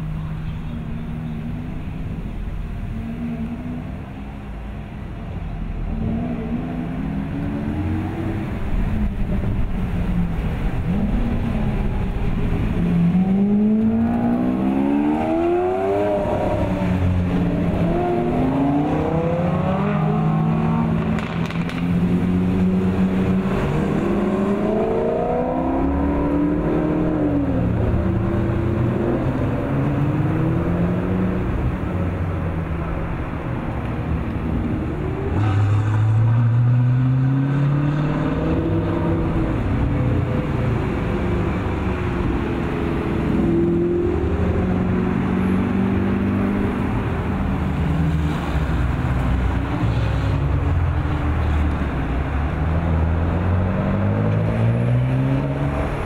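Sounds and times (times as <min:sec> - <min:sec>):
sports cars revving past: 0:09.9 - 0:56.0.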